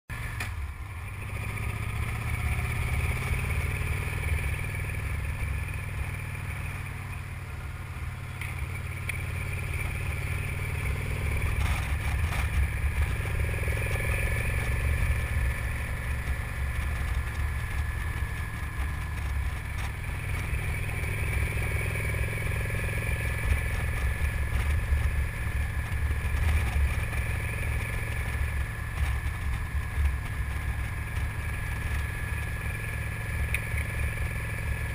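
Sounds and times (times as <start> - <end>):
motorcycle engine under load: 0.1 - 34.9.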